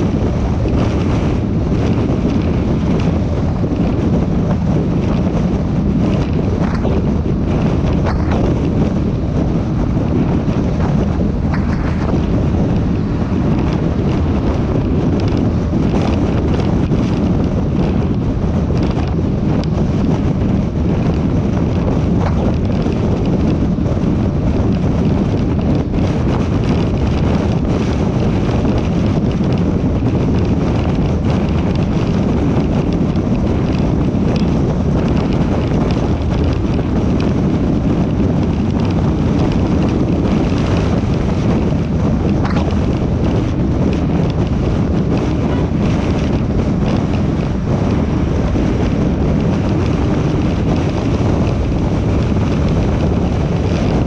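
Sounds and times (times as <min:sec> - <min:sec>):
car road and tyre noise: 0:00.0 - 0:54.0
wind rumble on microphone: 0:00.0 - 0:54.0.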